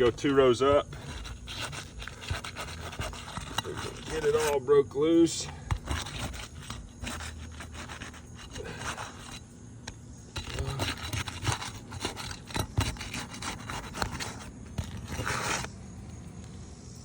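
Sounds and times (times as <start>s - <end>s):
roof shingles scraping and crackling: 0.0s - 4.6s, 5.4s - 9.4s, 10.4s - 15.7s.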